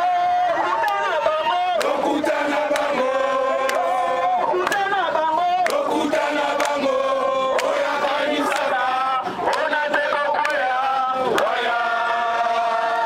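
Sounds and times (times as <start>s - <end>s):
voices chanting in unison: 0.0s - 13.0s.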